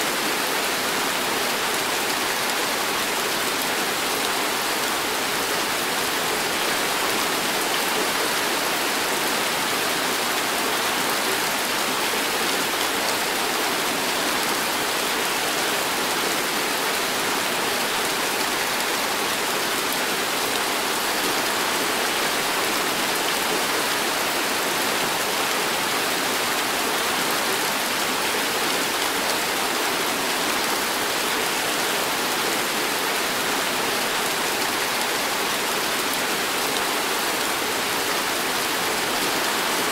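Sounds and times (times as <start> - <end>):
heavy rain on trees and pavement: 0.0 - 39.9.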